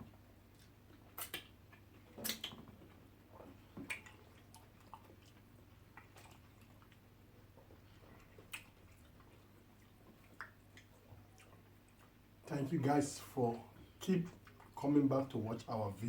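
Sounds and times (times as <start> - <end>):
low steady hum: 0.0 - 16.0
wet chewing sounds: 0.1 - 12.5, 13.5 - 14.9.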